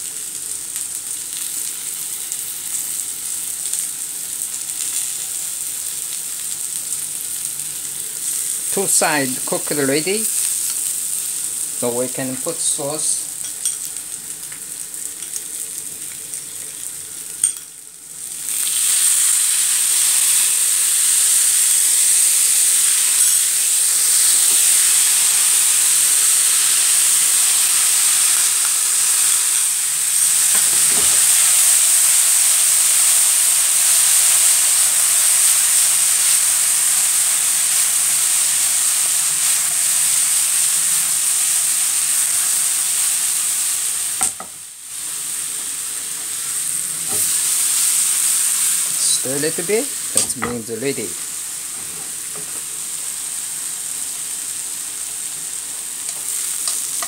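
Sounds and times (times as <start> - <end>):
potatoes sizzling in hot oil: 0.0 - 57.0.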